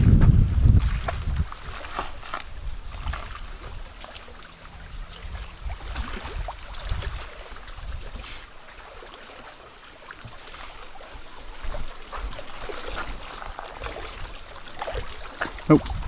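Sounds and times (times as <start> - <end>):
wind buffeting microphone: 0.0 - 8.8, 10.2 - 16.0.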